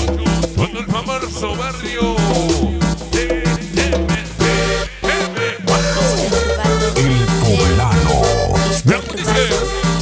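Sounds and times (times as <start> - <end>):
cumbia music: 0.0 - 10.0.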